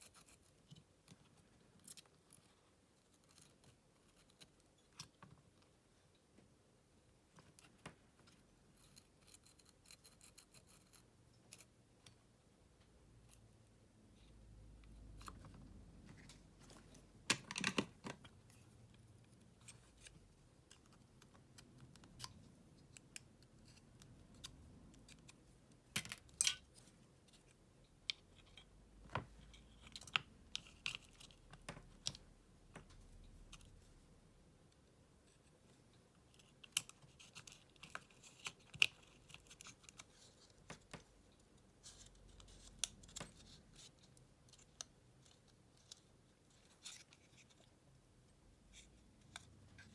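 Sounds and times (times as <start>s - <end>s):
small clicks taps and scrapes: 0.0s - 6.5s, 7.3s - 13.5s, 14.2s - 33.9s, 34.7s - 47.8s.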